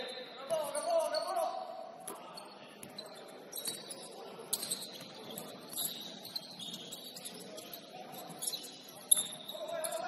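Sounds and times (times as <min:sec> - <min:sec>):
shoes squeaking on gym floor: 0:00.6 - 0:10.0.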